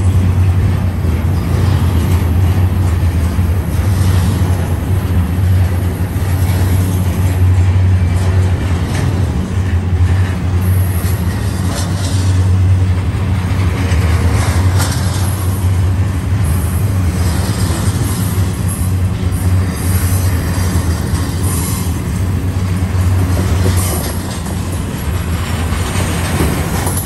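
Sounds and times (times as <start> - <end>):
train clicks: 0.0 - 27.0
train wheels rumbling on rail: 0.0 - 27.0.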